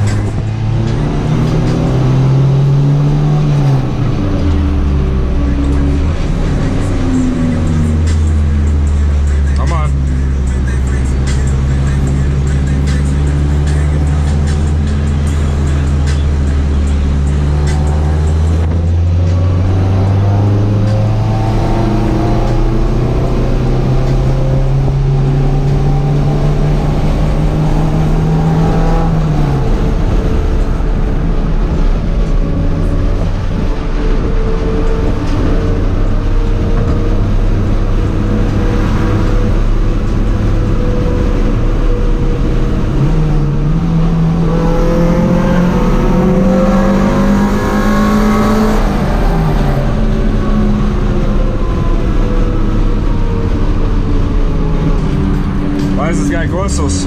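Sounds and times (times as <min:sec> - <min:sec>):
car engine while driving: 0:00.0 - 0:57.0.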